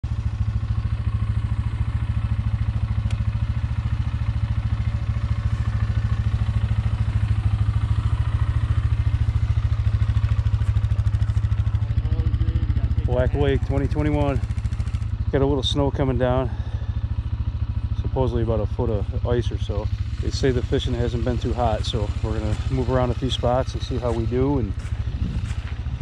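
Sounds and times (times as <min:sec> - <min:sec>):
atv engine running steadily: 0:00.0 - 0:26.0.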